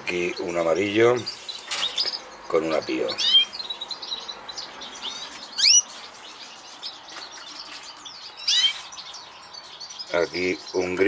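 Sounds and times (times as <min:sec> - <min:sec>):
birds sharp high calls: 0:00.0 - 0:11.0
birds twittering: 0:00.0 - 0:11.0.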